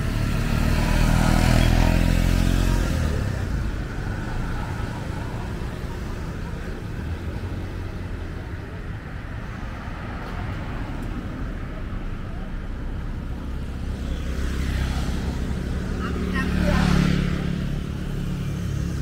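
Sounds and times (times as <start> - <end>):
rumble of passing cars: 0.0 - 19.0.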